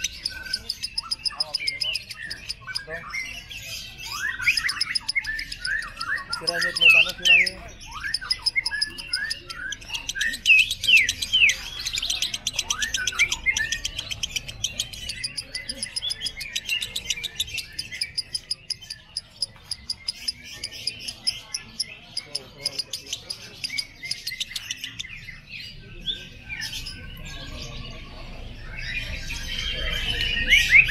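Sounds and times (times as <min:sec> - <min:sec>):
lovebird rapid high chatter: 0:00.0 - 0:30.9.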